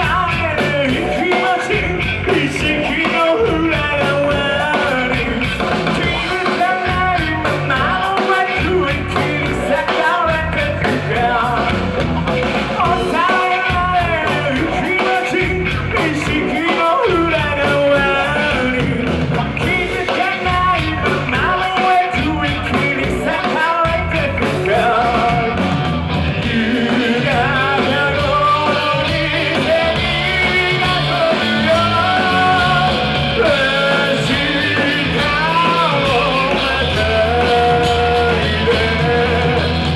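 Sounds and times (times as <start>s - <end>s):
person singing lead vocal: 0.0s - 39.9s
rock band playing live: 0.0s - 39.9s.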